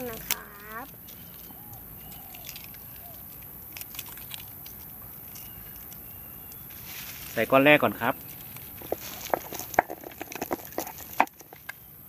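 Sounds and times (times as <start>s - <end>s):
batteries and plastic clicking: 0.0s - 6.7s, 8.1s - 11.9s.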